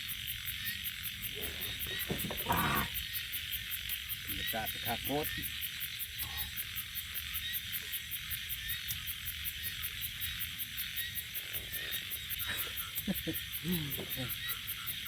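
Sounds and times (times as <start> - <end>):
frogs and insects chorus: 0.0 - 15.0.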